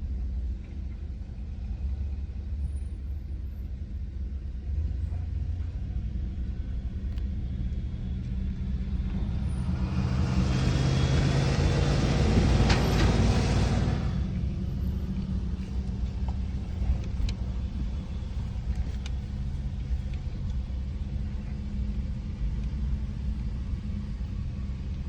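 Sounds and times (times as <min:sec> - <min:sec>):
truck engine rumble: 0:00.0 - 0:25.0.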